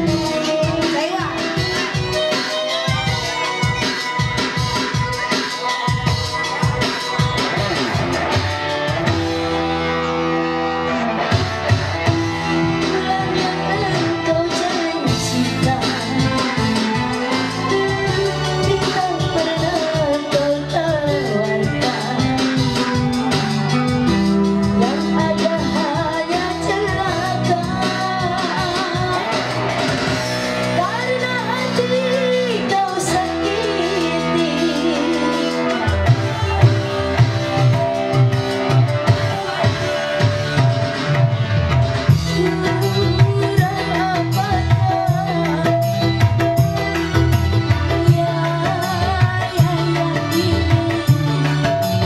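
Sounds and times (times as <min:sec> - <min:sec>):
woman singing into microphone: 0:00.0 - 0:41.1, 0:42.0 - 0:52.0
amplified live band: 0:00.0 - 0:52.0
drums: 0:00.0 - 0:52.0
electronic keyboard chords: 0:00.0 - 0:52.0.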